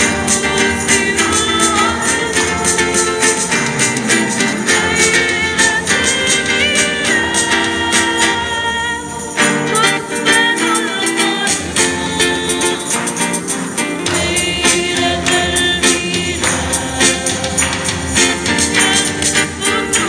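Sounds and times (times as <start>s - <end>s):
group singing a hymn: 0.0s - 9.6s, 11.0s - 20.0s
instrumental accompaniment: 0.0s - 20.0s
percussion hits: 0.0s - 20.0s.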